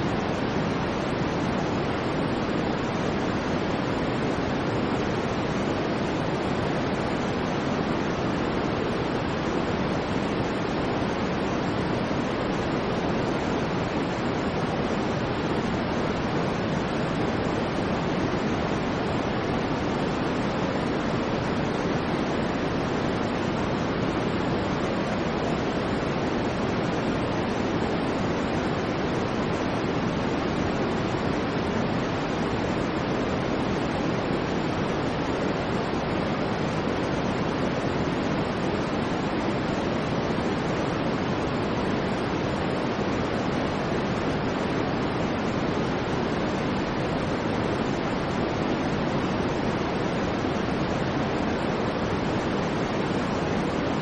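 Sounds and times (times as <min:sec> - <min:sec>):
steady white noise: 0:00.0 - 0:54.0.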